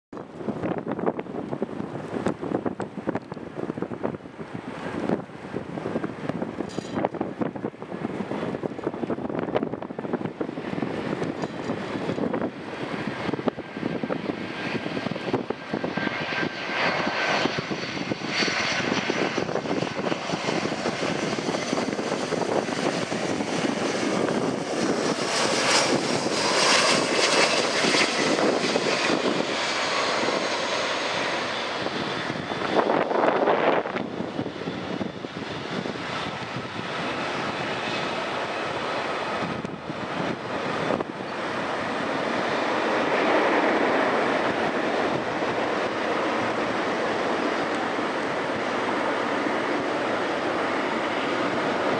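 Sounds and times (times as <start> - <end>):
jet engines rushing with high whine: 0.1 - 51.9.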